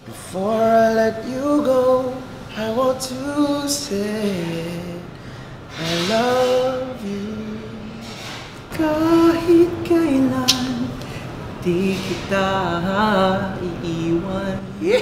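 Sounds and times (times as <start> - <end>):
men singing unaccompanied: 0.2 - 5.1, 5.7 - 8.0, 8.7 - 11.0, 11.6 - 15.0.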